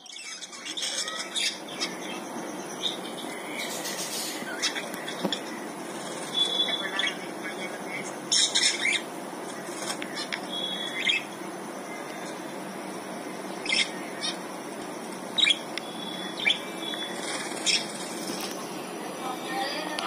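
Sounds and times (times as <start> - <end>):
small cage birds calling: 0.0 - 20.0
steady background noise: 0.0 - 20.0.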